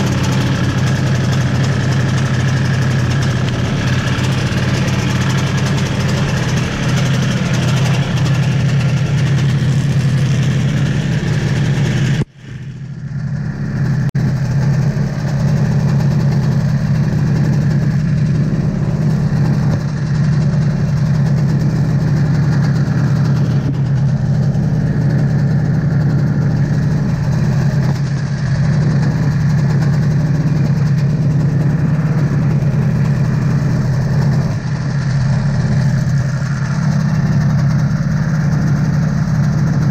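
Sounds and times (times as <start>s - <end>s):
snowmobile engine idling: 0.0s - 39.9s.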